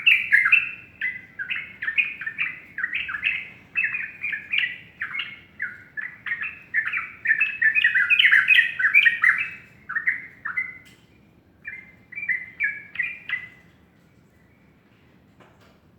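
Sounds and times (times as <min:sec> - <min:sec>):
bird chirping: 0:00.0 - 0:11.0, 0:11.6 - 0:14.7.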